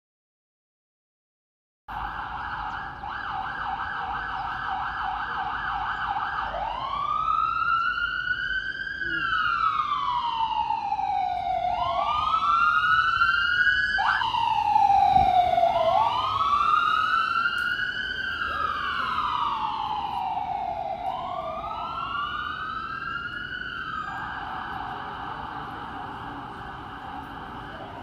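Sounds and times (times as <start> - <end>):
emergency vehicle siren: 1.9 - 28.0
traffic rumble: 1.9 - 28.0.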